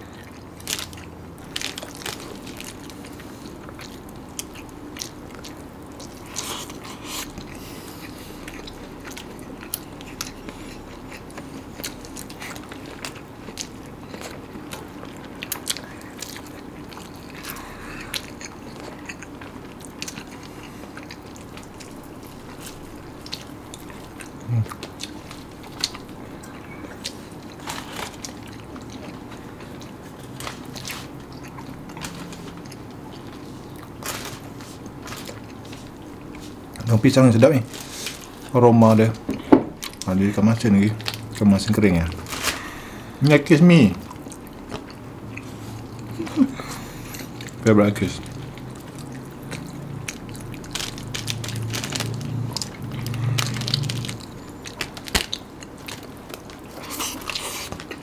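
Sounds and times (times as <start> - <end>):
chewing and biting food: 0.0 - 43.2, 43.9 - 58.0
steady low hum: 0.0 - 58.0.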